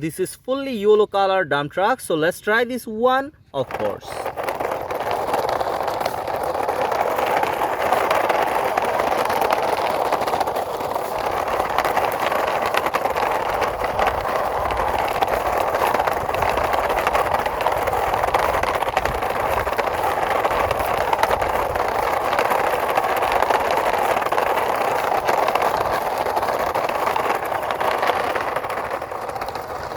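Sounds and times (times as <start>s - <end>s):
toy truck wheels rolling: 3.6s - 29.9s.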